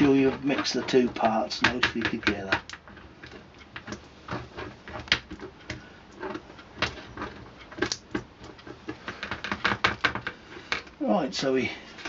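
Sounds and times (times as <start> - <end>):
stirring stick tapping and scraping: 0.0 - 12.0.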